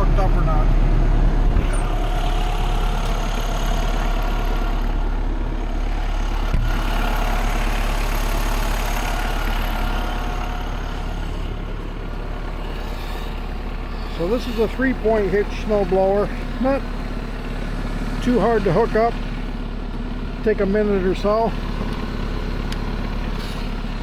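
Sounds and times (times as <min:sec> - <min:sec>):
engine knock: 0:00.0 - 0:24.0
tractor diesel engine idling: 0:00.0 - 0:24.0.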